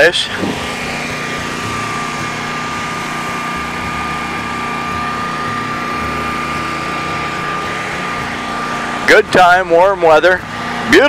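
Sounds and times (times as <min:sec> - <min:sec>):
high whine: 0:00.0 - 0:11.0
riding lawn mower engine running: 0:00.0 - 0:11.0.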